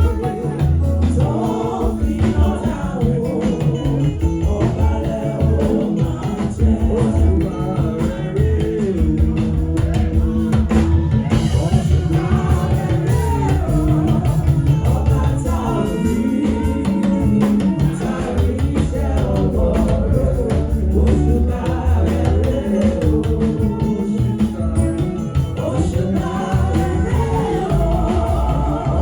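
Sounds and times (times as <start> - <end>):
gospel music with singing: 0.0 - 29.0.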